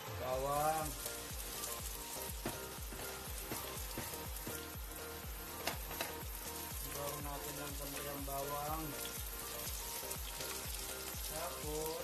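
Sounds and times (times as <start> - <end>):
background music with a beat: 0.0 - 12.0
garlic sizzling in a pan: 0.0 - 12.0
wooden spatula stirring: 0.5 - 12.0.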